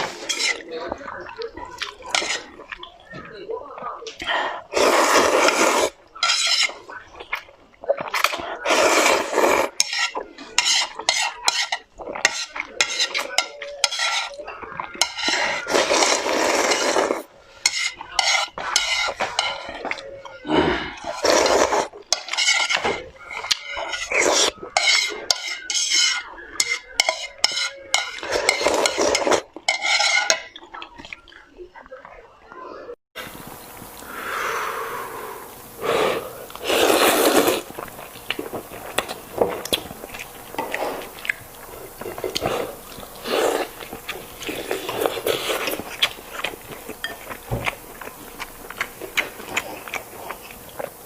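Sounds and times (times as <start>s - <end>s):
utensils scraping and clinking in bowl: 0.0s - 3.3s, 4.1s - 31.2s, 36.4s - 51.0s.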